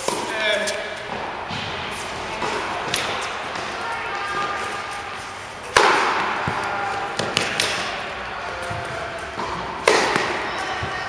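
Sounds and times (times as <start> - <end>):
tennis ball racket hits: 0.0 - 4.9, 5.6 - 10.9
tennis ball bouncing on court: 1.1 - 4.7, 5.6 - 11.0.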